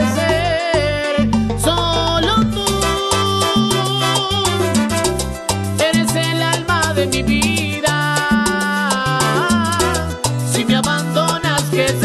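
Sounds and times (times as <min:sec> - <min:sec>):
salsa dance music: 0:00.0 - 0:12.0.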